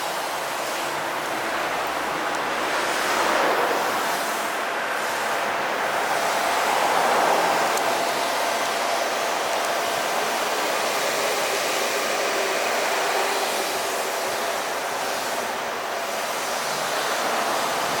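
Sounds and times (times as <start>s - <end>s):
welding arc crackling hiss: 0.0s - 18.0s.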